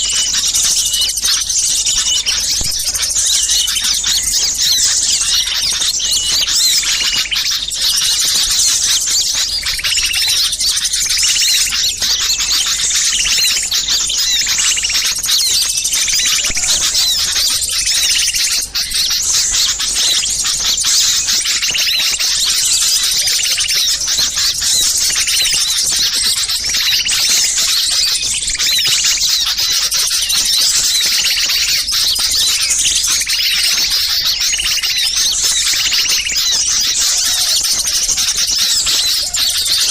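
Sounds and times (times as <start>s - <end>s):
many small songbirds chirping: 0.0s - 39.9s.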